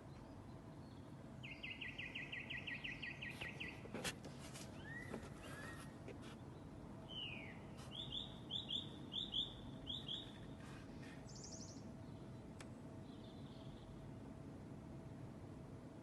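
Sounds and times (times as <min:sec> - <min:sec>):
songbird singing: 0:00.0 - 0:04.0, 0:04.7 - 0:14.1.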